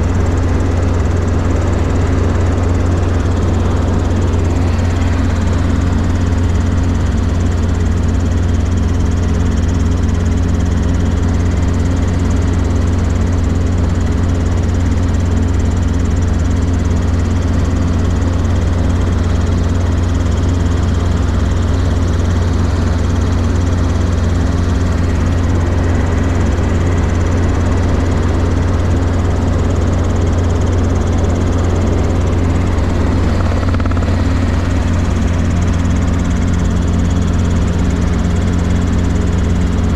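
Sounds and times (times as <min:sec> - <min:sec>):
helicopter drone in flight: 0:00.0 - 0:39.9.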